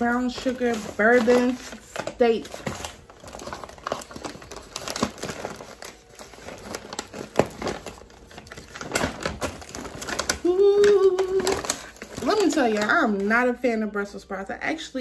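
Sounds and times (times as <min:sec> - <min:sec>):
paper bag rustling and crinkling: 0:00.0 - 0:13.4
plastic packets rustling: 0:00.0 - 0:13.6.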